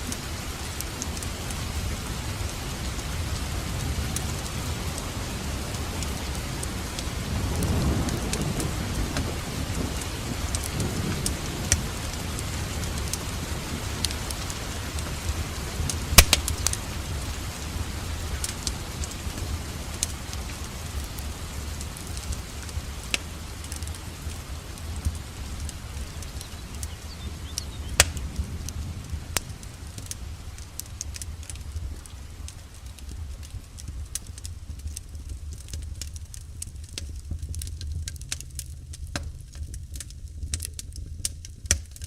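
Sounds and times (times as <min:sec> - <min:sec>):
rain hiss: 0:00.0 - 0:42.0
wood fire crackling and popping: 0:00.0 - 0:42.0.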